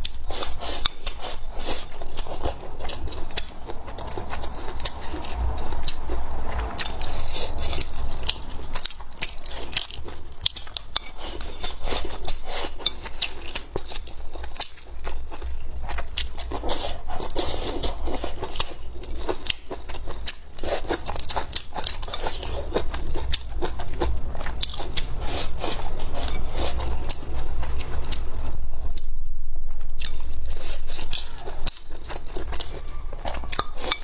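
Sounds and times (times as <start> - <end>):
close chewing: 0.0 - 29.1, 30.0 - 34.0.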